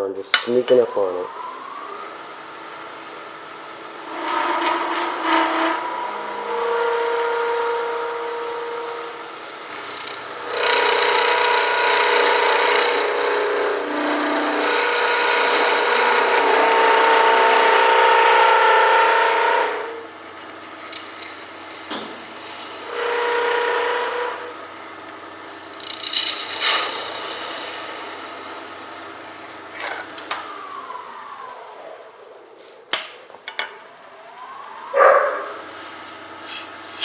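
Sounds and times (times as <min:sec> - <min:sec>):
lathe humming tone: 0:00.0 - 0:37.0
lathe gouge scraping hiss: 0:01.4 - 0:31.4.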